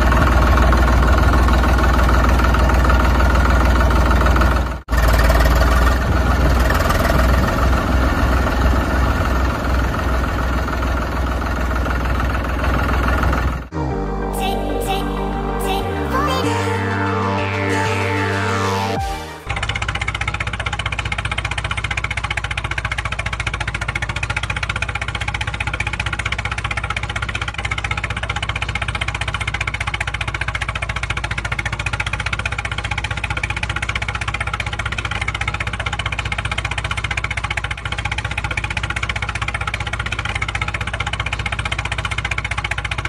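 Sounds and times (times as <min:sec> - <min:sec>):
tractor engine chugging: 0:00.0 - 0:14.0, 0:19.5 - 0:43.0.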